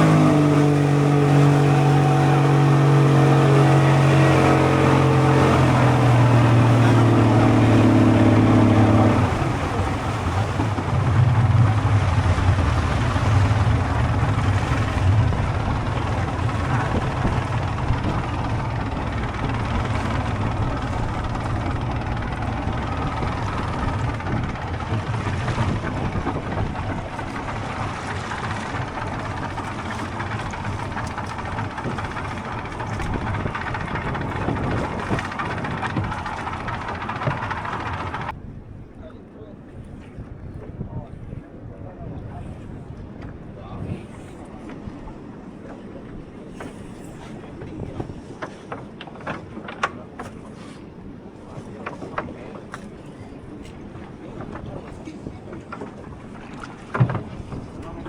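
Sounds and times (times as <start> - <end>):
outboard motor running: 0.0 - 38.6, 39.6 - 58.0
rushing wind and water: 0.0 - 58.0.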